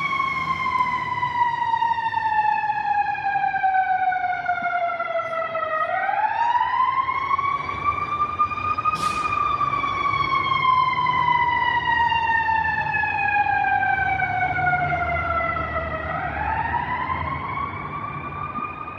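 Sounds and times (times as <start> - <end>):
engine rumbling: 0.0 - 18.9
fire engine siren wailing: 0.0 - 18.9.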